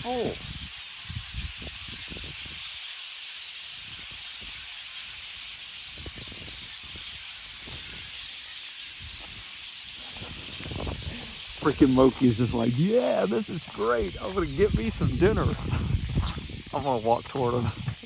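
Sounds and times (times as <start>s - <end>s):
flock of birds chattering: 0.0s - 18.0s.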